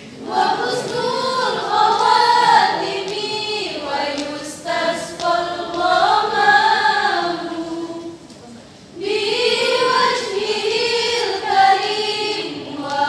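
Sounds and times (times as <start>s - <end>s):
women's choir singing: 0.0s - 8.3s, 8.9s - 13.0s.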